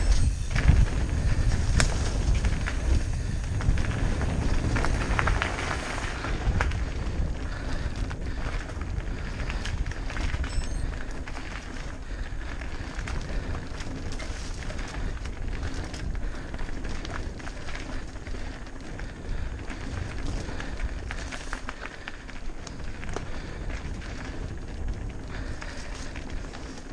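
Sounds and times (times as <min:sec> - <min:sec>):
bike rattling and clicking: 0:00.0 - 0:26.9
bike tyres rolling over dirt: 0:00.0 - 0:26.9
wind rumble on microphone: 0:00.0 - 0:26.9.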